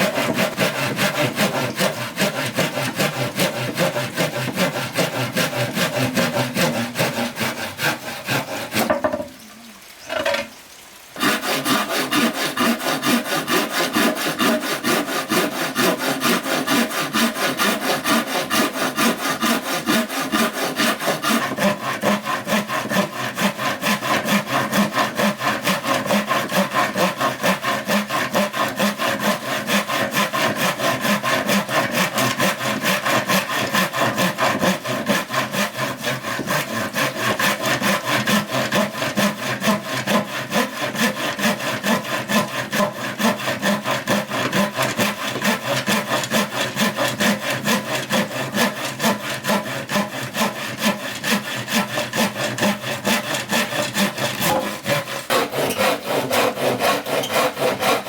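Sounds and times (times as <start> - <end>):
saw cutting bamboo: 0.0 - 9.4, 11.2 - 58.0.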